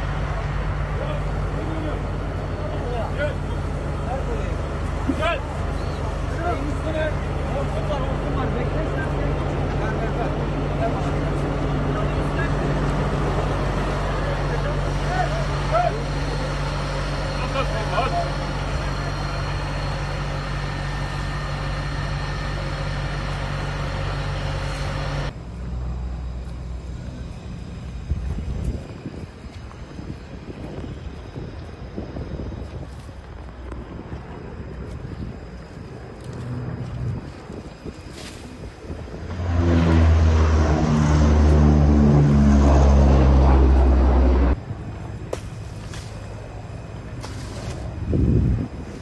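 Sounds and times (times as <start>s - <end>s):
aircraft flying low overhead: 0.0s - 49.0s
engine rumbling: 0.0s - 49.0s
uneven low rush: 0.0s - 49.0s.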